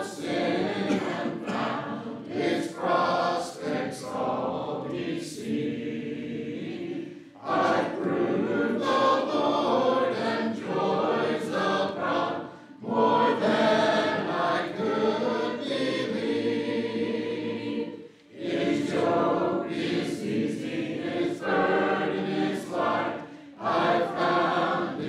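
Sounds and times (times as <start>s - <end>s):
congregation singing a hymn: 0.0s - 25.0s.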